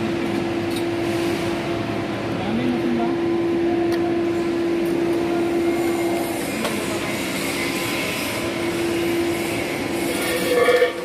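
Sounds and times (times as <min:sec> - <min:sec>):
workshop machinery humming: 0:00.0 - 0:11.0.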